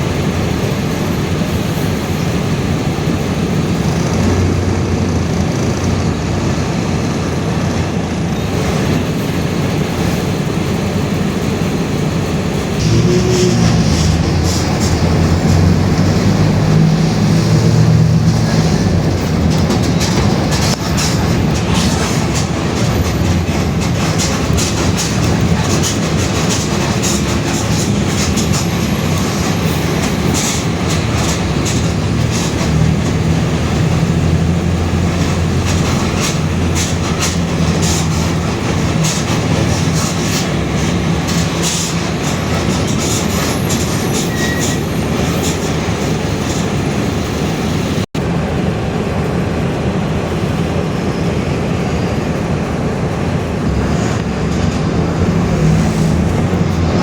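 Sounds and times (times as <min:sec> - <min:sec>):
bus diesel engine humming: 0:00.0 - 0:57.0.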